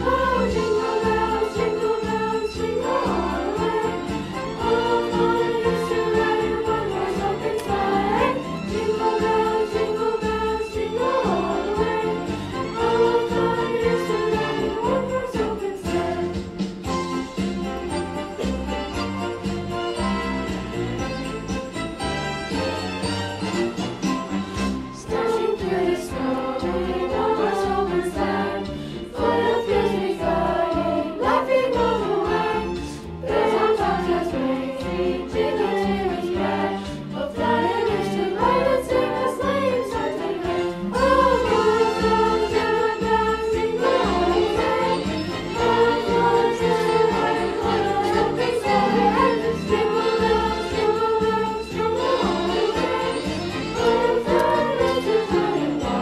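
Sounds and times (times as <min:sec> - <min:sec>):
children's chorus singing: 0:00.0 - 0:16.5, 0:24.9 - 0:56.0
instrumental accompaniment: 0:00.0 - 0:56.0.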